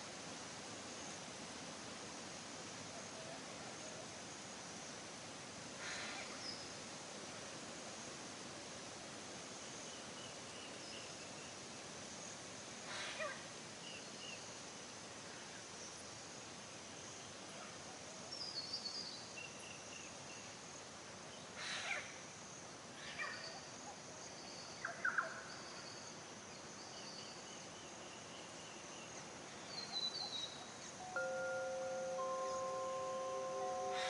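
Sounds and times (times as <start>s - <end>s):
outdoor hiss: 0.0s - 34.0s.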